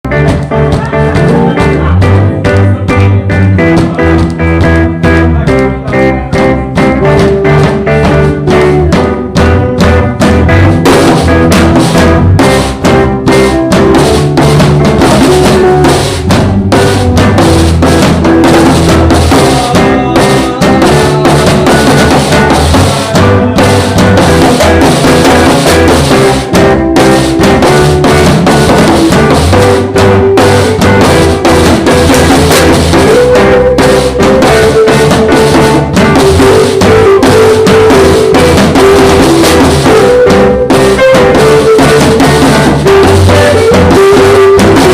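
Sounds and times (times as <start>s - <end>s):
drum kit beat: 0.0s - 44.9s
live jazz band playing: 0.1s - 44.9s.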